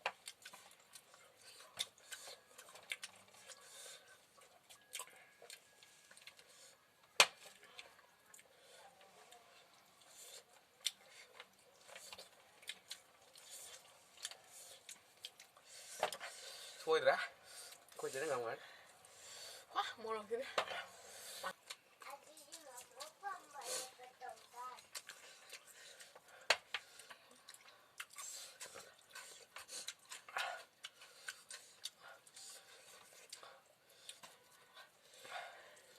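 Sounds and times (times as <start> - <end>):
chewing and eating sounds: 0.0 - 19.7, 20.4 - 35.9.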